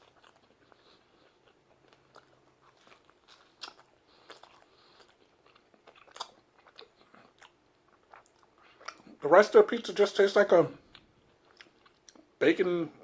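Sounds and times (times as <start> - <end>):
person chewing food: 0.0 - 9.2, 10.8 - 12.4.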